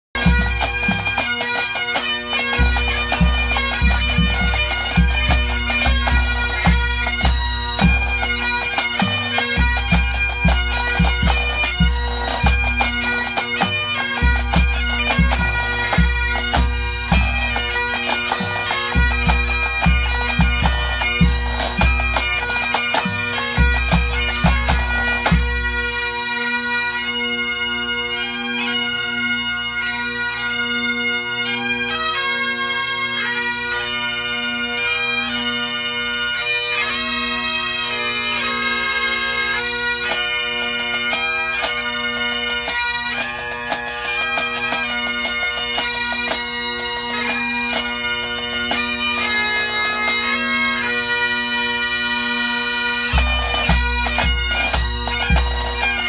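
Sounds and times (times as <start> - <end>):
bagpipes playing: 0.2 - 56.0.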